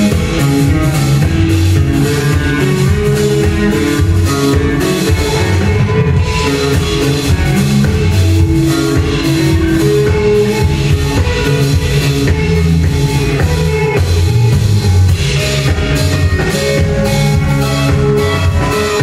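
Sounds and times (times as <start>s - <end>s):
bass guitar: 0.0s - 19.0s
drum kit: 0.0s - 19.0s
electric guitars: 0.0s - 19.0s.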